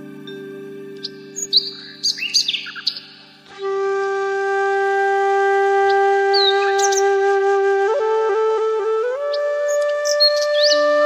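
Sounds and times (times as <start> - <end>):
flute playing long notes: 0.0 - 2.8, 3.4 - 11.0.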